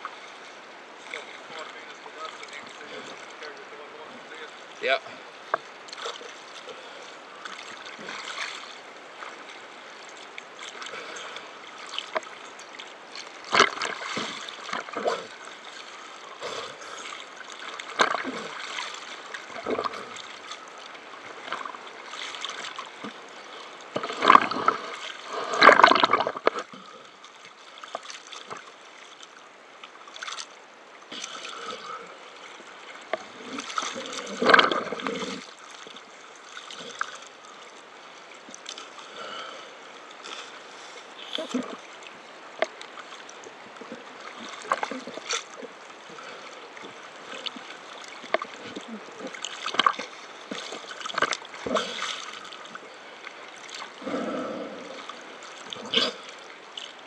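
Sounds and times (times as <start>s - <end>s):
water splashing and gurgling: 0.0s - 57.0s.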